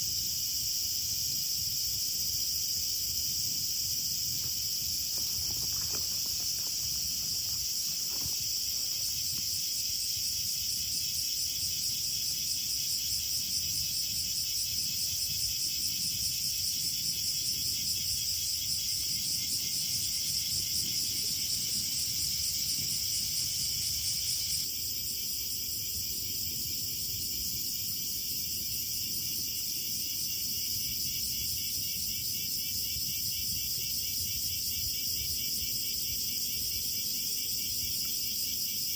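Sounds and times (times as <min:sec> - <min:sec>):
crickets and insects chirring: 0:00.0 - 0:38.9.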